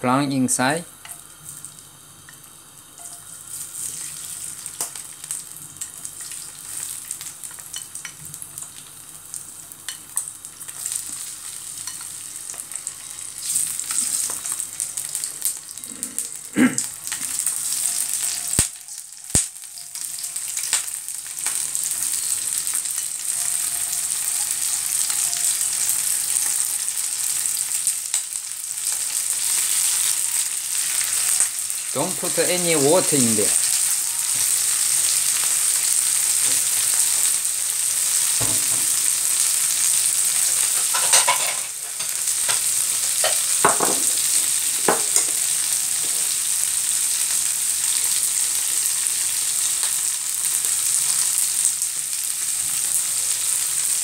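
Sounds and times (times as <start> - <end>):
prawns sizzling in hot oil: 0.1 - 54.0.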